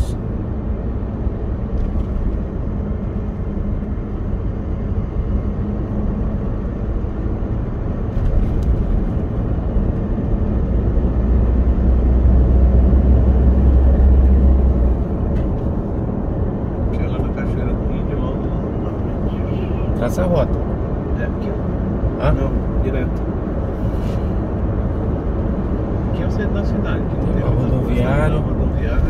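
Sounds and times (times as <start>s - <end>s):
car engine and tyre drone: 0.0s - 29.0s.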